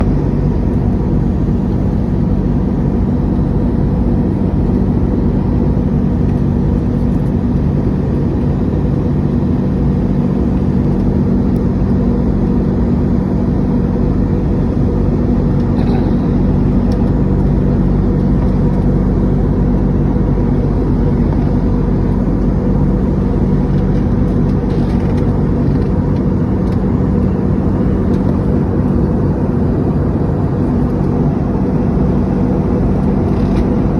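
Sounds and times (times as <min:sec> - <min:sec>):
airliner engine drone: 0:00.0 - 0:33.9
constant low hum: 0:00.0 - 0:33.9.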